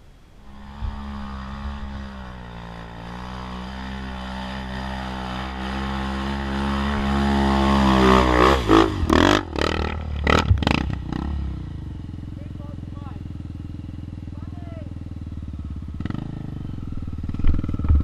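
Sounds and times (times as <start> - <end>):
dirt bike engine revving: 0.4 - 18.0.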